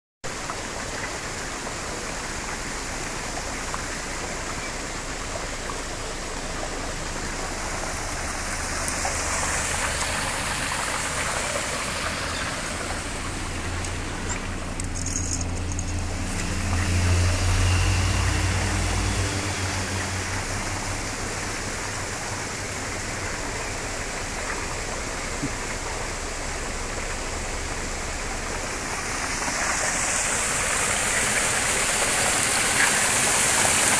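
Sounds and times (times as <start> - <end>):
stream rushing: 0.3 - 33.9.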